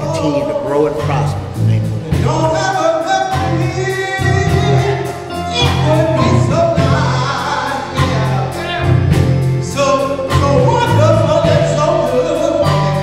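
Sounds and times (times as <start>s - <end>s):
low instrumental notes: 0.0s - 13.0s
men singing gospel: 0.0s - 13.0s.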